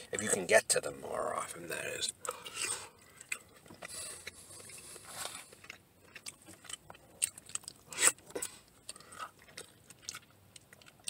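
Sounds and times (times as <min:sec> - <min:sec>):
man chewing: 0:02.0 - 0:11.0.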